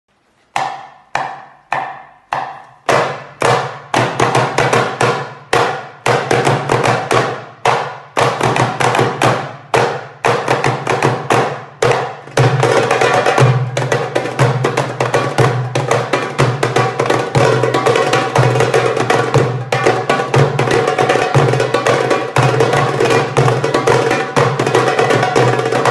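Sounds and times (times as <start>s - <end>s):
hand drums playing: 0.6s - 25.9s.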